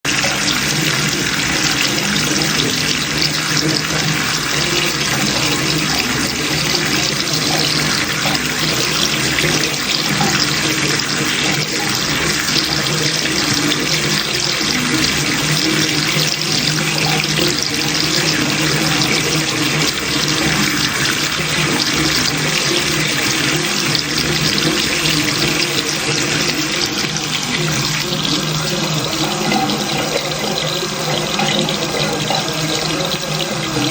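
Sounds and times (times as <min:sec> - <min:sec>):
water running and splashing: 0:00.0 - 0:33.9.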